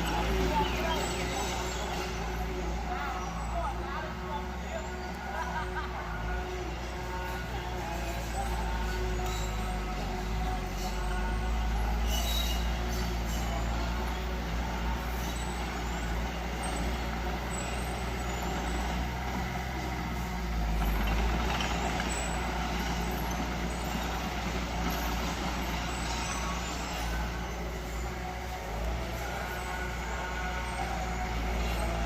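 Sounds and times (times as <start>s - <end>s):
heavy diesel machinery droning: 0.0s - 32.0s.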